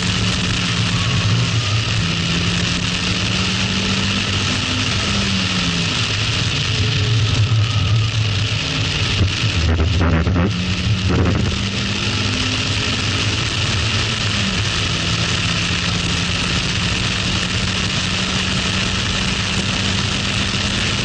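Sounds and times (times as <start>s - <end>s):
car engine accelerating: 0.0s - 21.0s
wind rush: 0.0s - 21.0s.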